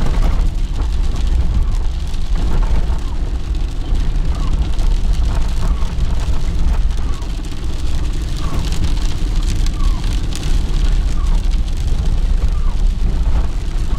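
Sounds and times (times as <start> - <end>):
car engine and tyre rumble: 0.0 - 13.9
raindrops tapping on windscreen: 0.0 - 13.9
windscreen wipers swishing: 0.0 - 13.9.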